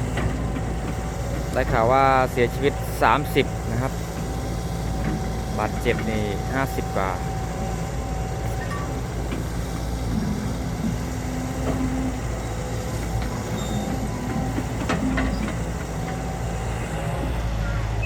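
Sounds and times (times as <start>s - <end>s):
diesel machinery engine rumble: 0.0s - 18.0s.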